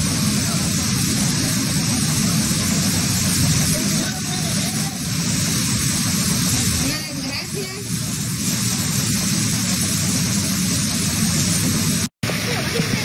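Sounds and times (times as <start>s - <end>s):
floodwater rushing through street: 0.0s - 13.0s
heavy rain: 0.0s - 13.0s.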